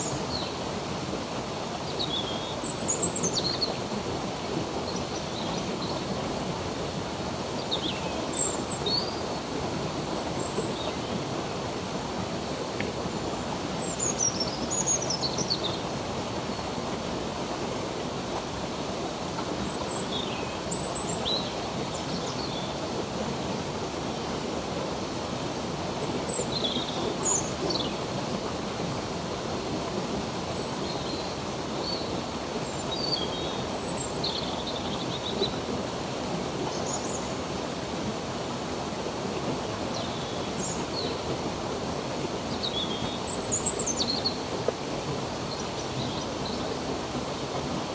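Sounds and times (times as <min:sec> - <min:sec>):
stream water rushing: 0:00.0 - 0:47.9.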